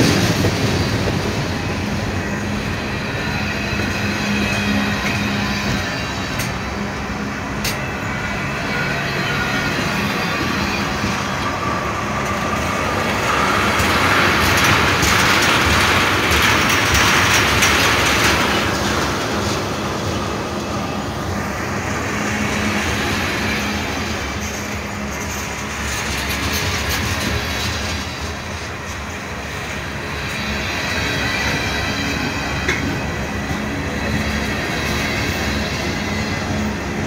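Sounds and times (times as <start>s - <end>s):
freight cars rolling on rails: 0.0s - 37.0s.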